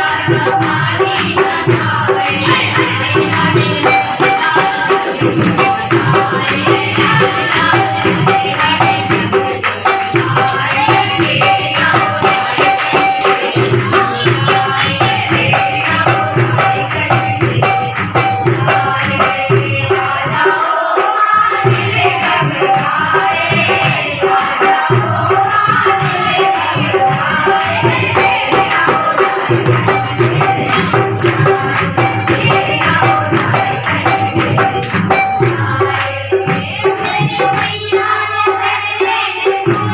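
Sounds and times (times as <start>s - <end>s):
devotional singing: 0.0s - 39.9s
jingling tambourine percussion: 0.0s - 39.9s.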